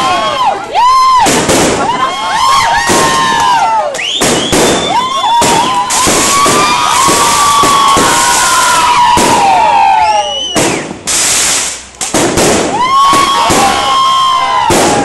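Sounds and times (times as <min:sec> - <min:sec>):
firework bangs: 0:00.0 - 0:15.0
firework whistles: 0:01.0 - 0:15.0.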